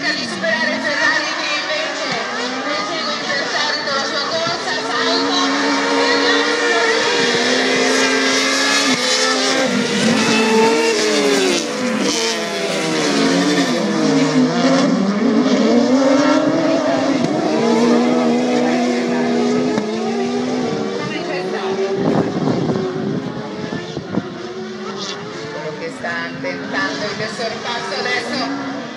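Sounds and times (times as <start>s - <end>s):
race car engines running hard: 0.0s - 28.9s.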